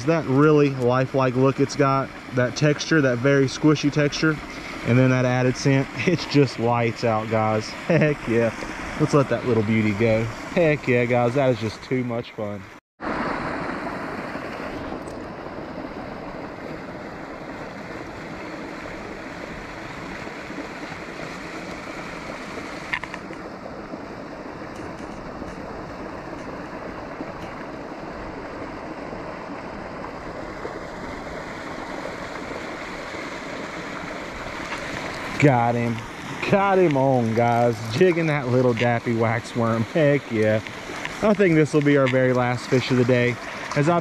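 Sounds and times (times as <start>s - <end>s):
creek water flowing over rocks: 0.0s - 12.2s, 13.0s - 44.0s.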